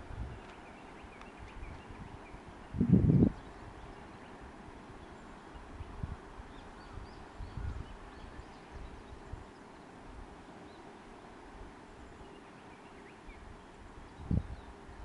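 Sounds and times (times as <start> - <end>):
wind rumbling on microphone: 0.0 - 10.4, 13.3 - 15.0.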